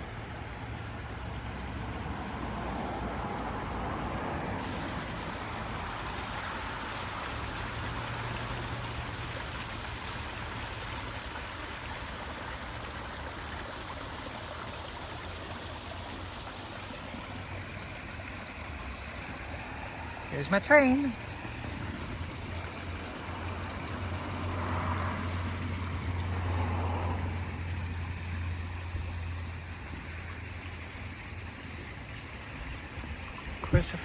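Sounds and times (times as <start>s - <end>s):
waterfall rushing into pond: 0.0s - 34.0s.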